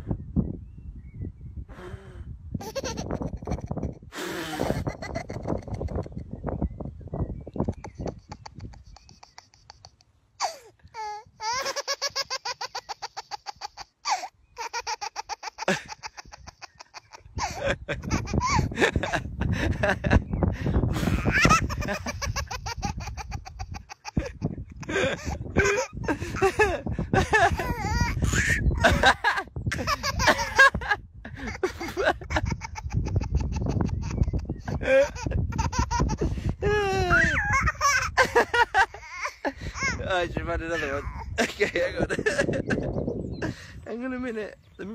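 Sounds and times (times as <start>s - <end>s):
baby laughing: 2.6s - 6.3s, 7.6s - 20.2s, 20.9s - 43.5s
man laughing: 2.6s - 6.4s, 7.7s - 43.8s.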